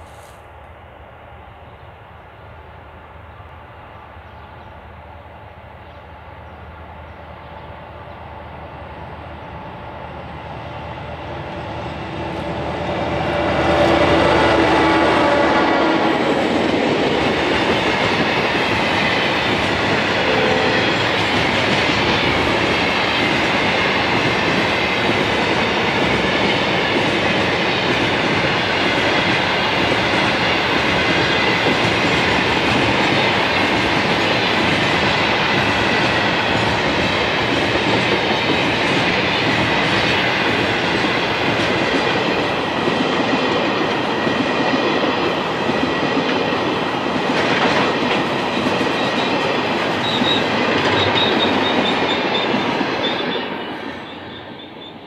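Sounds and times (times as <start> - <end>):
diesel locomotive engines: 0.0 - 55.0
train wagons rumbling and clattering: 8.8 - 54.9.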